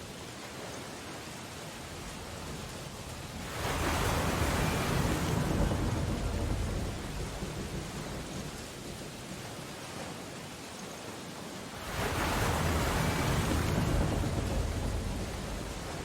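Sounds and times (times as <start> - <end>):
steady rain: 0.0 - 16.0
surf noise: 0.0 - 16.0.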